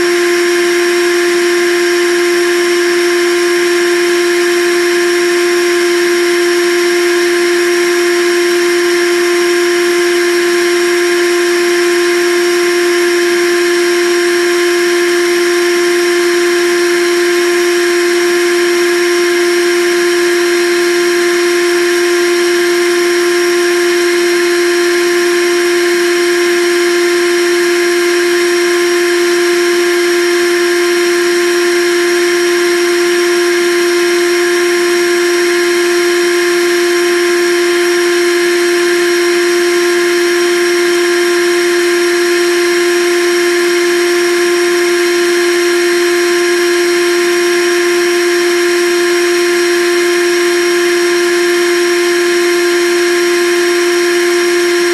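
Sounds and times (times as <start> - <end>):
blender motor whining: 0.0 - 54.9.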